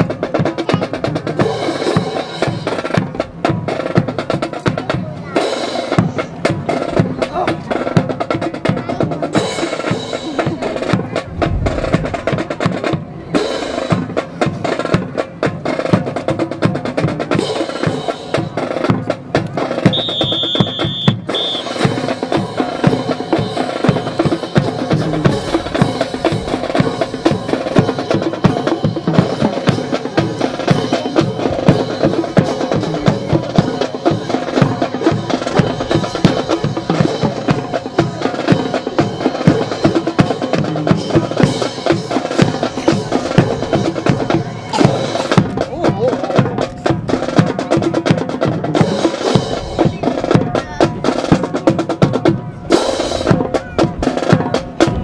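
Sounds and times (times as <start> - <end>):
marching snare and bass drums: 0.0 - 55.0.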